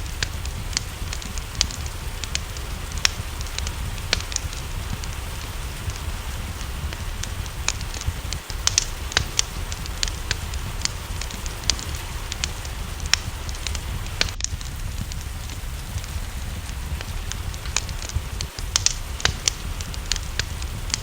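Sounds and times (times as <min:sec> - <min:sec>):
low rumble: 0:00.0 - 0:21.0
rain hissing: 0:00.0 - 0:21.0
wood fire crackling and popping: 0:00.0 - 0:21.0.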